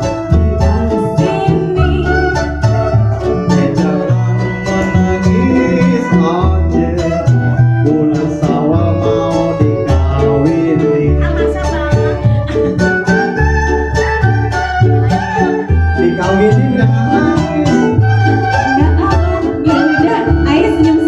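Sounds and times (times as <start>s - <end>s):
held melody line: 0.0s - 21.0s
plucked and strummed strings: 0.0s - 21.0s
plucked bass line: 0.0s - 21.0s.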